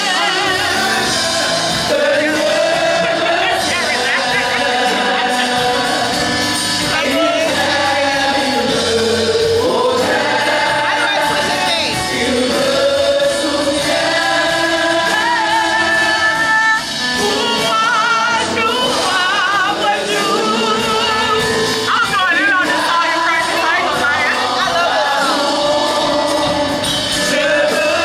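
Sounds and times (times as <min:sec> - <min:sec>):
gospel choir singing: 0:00.0 - 0:28.0.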